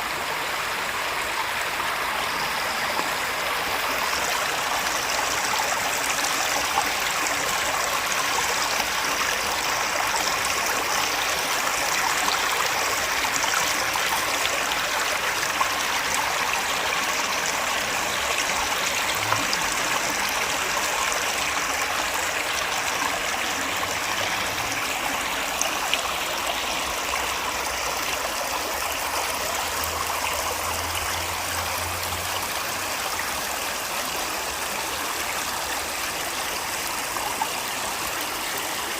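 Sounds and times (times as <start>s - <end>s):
waterfall pouring and splashing: 0.0s - 38.9s.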